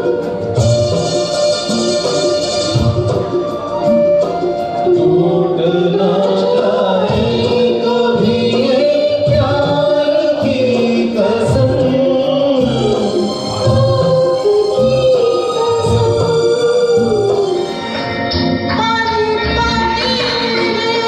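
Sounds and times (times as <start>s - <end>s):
gliding instrumental melody: 0.0s - 7.0s, 10.6s - 21.0s.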